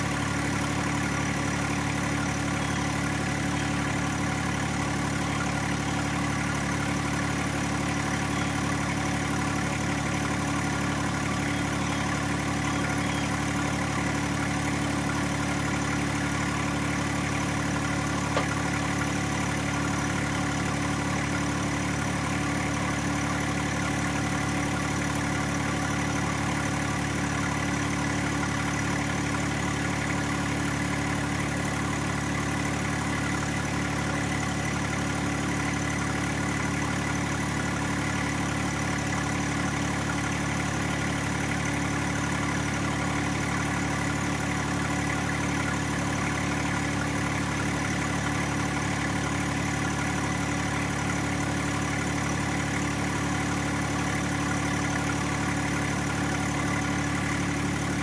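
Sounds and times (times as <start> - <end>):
diesel tractor engine idling: 0.0 - 58.0.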